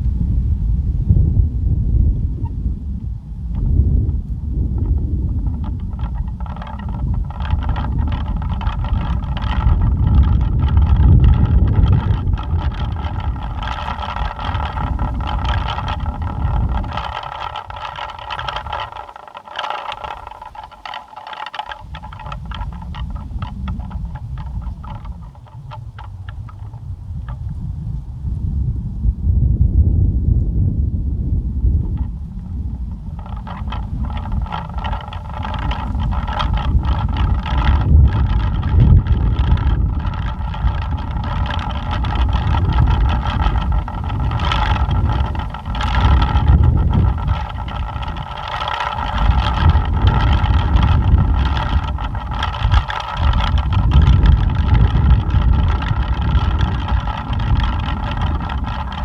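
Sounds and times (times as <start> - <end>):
wind buffeting microphone: 0.0 - 59.0
pinwheels whirring: 3.5 - 27.7, 31.8 - 59.0
pinwheels clicking rattles: 4.8 - 27.6, 31.8 - 59.0.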